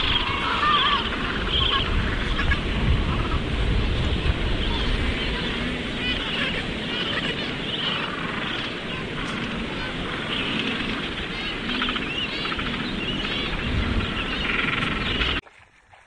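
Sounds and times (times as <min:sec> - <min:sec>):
penguins honking calls: 0:00.0 - 0:15.2
wind rumble on microphone: 0:00.0 - 0:15.4.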